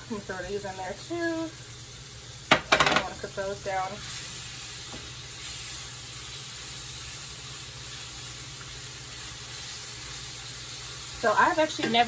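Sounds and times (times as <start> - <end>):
noodles sizzling in hot oil: 0.0 - 12.0.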